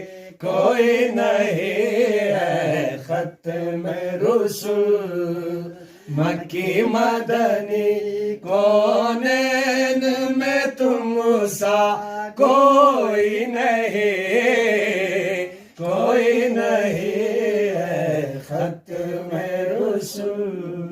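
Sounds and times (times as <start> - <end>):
person singing unaccompanied: 0.0 - 20.9.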